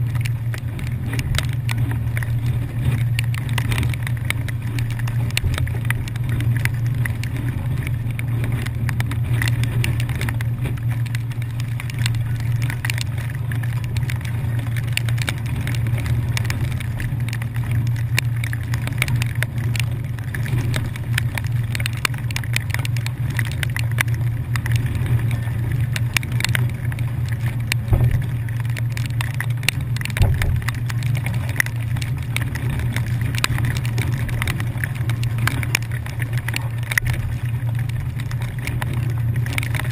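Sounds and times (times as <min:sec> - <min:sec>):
ferry engines droning: 0:00.0 - 0:39.9
rain ticking on camera: 0:00.0 - 0:39.9.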